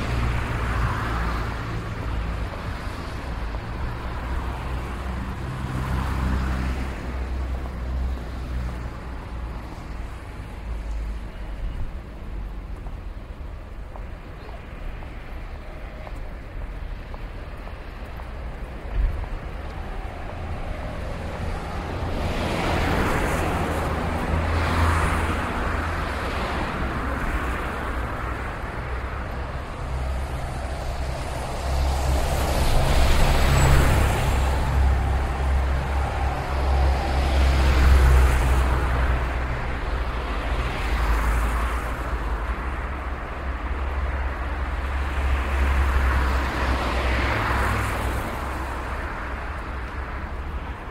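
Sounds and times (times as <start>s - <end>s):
vehicles passing: 0.0s - 50.9s.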